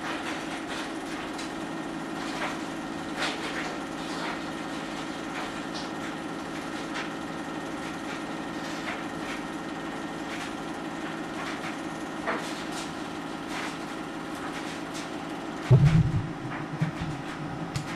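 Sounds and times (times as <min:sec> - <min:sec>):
film projector whirring: 0:00.0 - 0:17.9.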